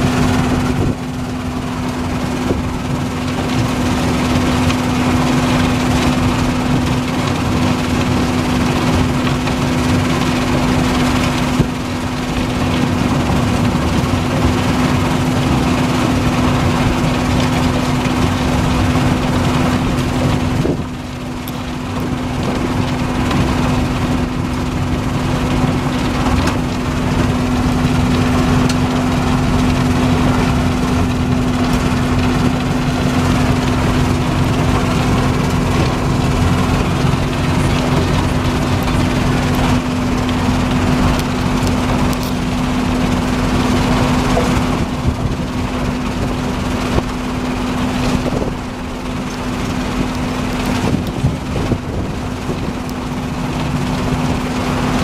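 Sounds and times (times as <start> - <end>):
crusher machine hum: 0.0 - 55.0.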